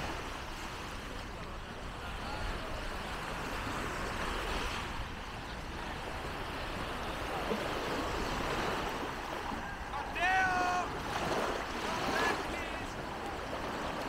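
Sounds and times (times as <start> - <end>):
surf: 0.0 - 14.0
wind: 0.0 - 14.0
distant voices: 0.8 - 14.0.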